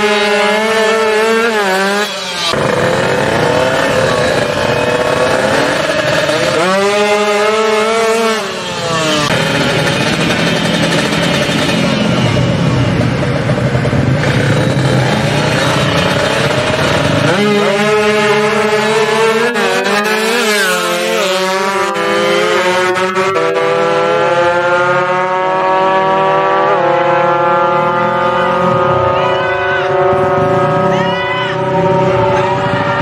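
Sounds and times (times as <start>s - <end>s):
motorcycles revving and accelerating: 0.0s - 33.0s.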